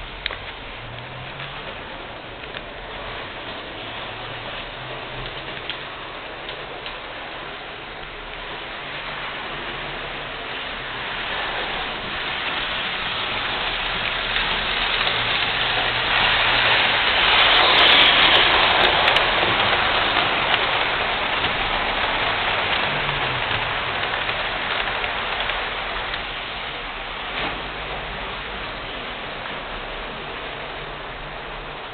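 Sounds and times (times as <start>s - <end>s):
model train rattling on track: 0.0s - 28.2s.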